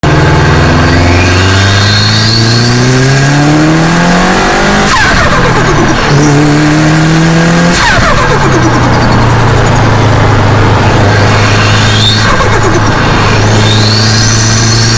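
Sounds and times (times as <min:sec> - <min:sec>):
turbocharged engine revving: 0:00.0 - 0:14.9.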